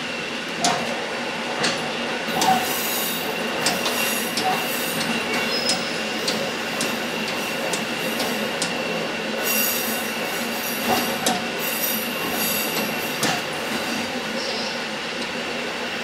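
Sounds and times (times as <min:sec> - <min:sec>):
diesel railcar rumbling: 0:00.0 - 0:16.0.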